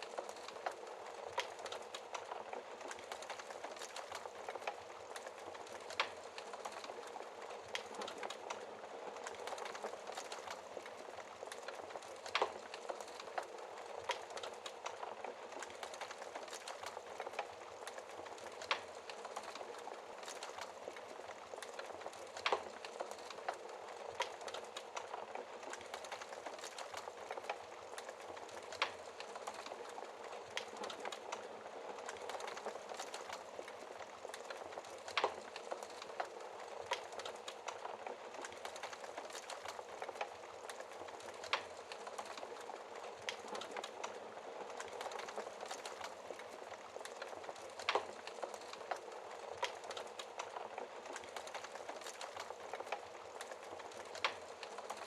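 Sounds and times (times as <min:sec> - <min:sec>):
fire crackling: 0:00.0 - 0:55.0
fire popping: 0:00.0 - 0:55.0.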